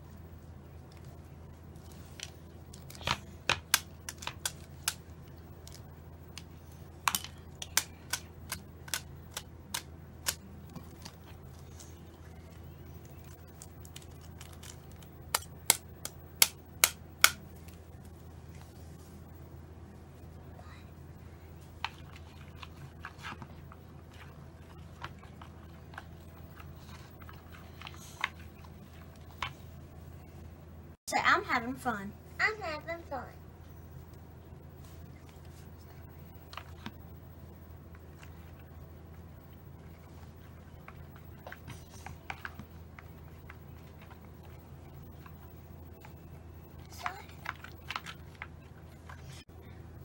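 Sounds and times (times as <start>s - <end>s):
wet slime squelches: 0.0s - 30.6s, 33.5s - 49.5s
low steady hum: 0.0s - 50.0s.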